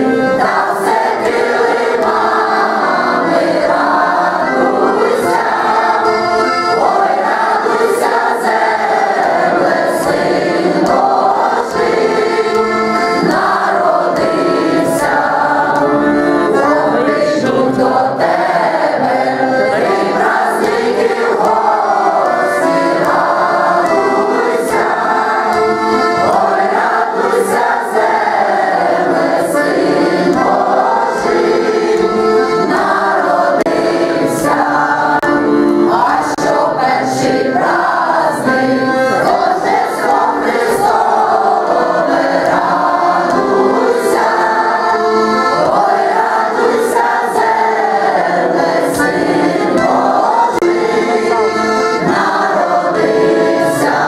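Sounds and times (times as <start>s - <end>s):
accordion: 0.0s - 54.0s
group singing folk song: 0.0s - 54.0s.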